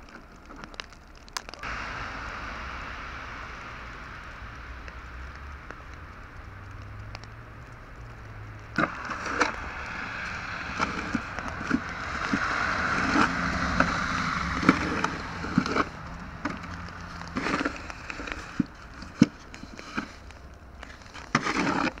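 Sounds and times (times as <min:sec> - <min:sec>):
tyres swishing through slush: 0:01.6 - 0:22.0.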